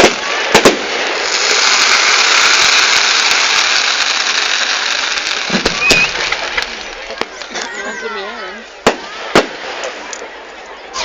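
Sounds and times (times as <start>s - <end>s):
fireworks hissing and crackling: 0.0s - 10.3s.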